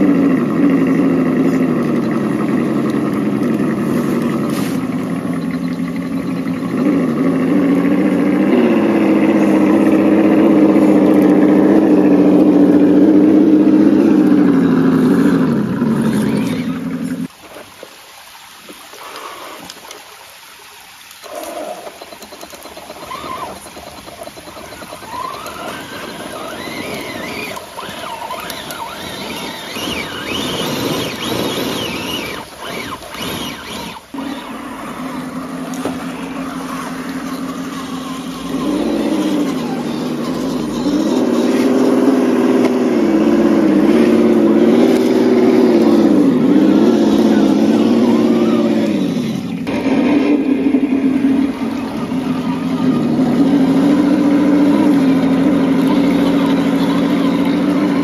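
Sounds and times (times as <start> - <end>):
electric motor and gears whining: 0.0 - 17.3, 21.2 - 58.0
outdoor background noise: 0.0 - 58.0.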